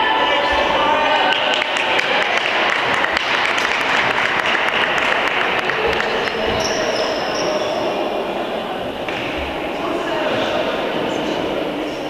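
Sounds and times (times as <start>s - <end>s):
murmur of sports hall: 0.0s - 12.0s.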